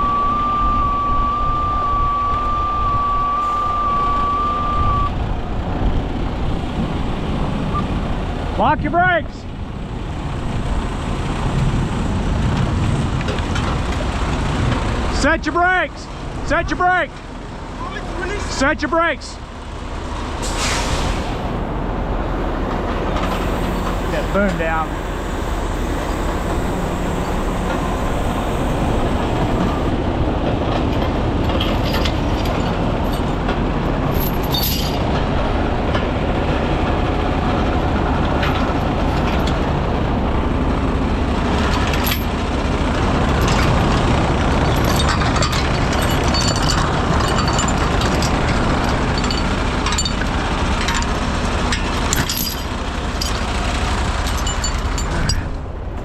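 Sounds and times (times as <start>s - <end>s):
hydraulics working: 0.0s - 8.6s, 9.5s - 56.0s
diesel engine running: 0.0s - 56.0s.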